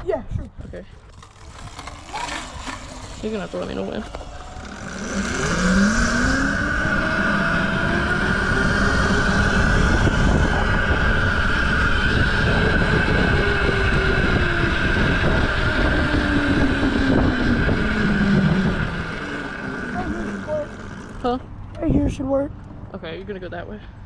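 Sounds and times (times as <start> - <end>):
mini bike engine revving: 0.9 - 22.0
steady high whine: 0.9 - 24.0.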